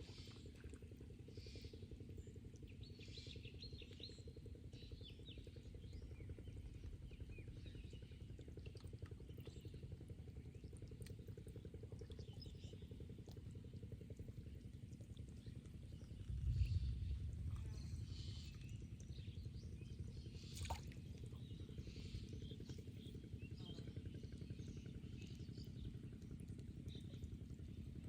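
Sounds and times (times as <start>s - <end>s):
steady low rumble: 4.4s - 28.0s.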